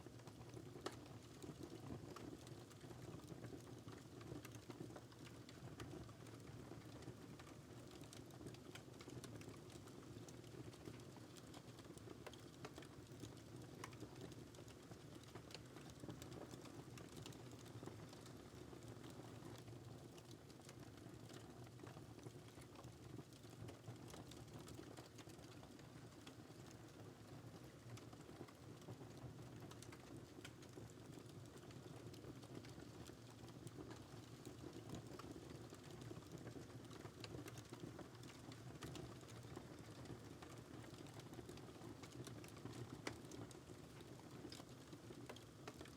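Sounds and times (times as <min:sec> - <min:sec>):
wood fire crackling: 0:00.2 - 0:45.9.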